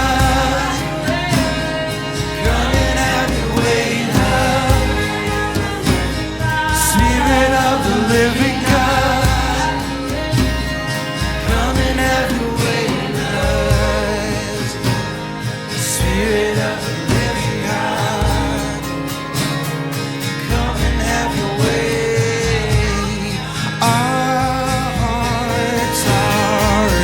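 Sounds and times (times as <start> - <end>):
pulsing bass line: 0.0 - 23.5
person singing: 0.0 - 27.0
sustained instrumental chords: 0.0 - 27.0.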